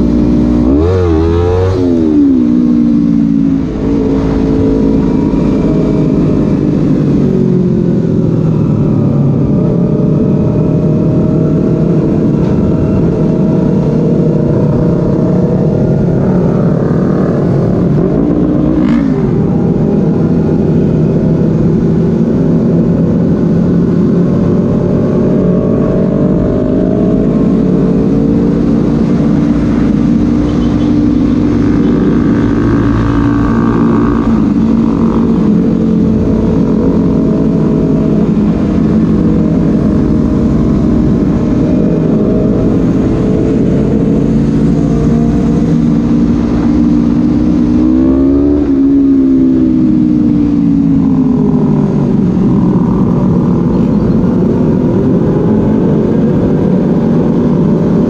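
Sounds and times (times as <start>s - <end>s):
motorcycle engine running: 0.0s - 58.0s
wind noise rumble: 0.0s - 58.0s.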